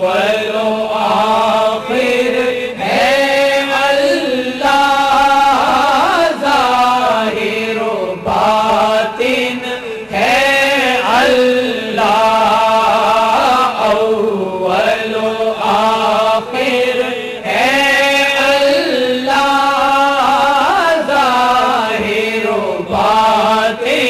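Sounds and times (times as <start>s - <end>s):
person chanting ornamented notes: 0.0s - 24.0s.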